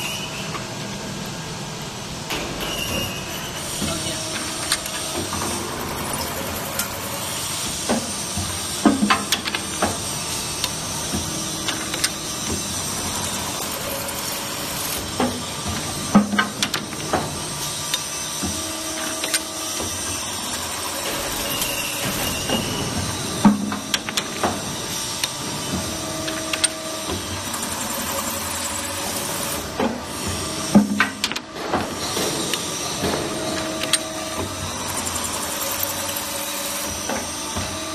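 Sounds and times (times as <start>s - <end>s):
machine whirring with hiss: 0.0s - 37.9s.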